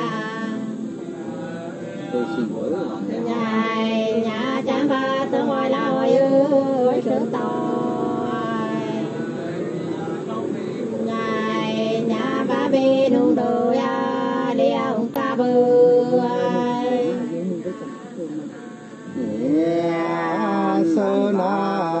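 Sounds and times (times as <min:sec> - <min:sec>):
women singing unaccompanied: 0:00.0 - 0:22.0.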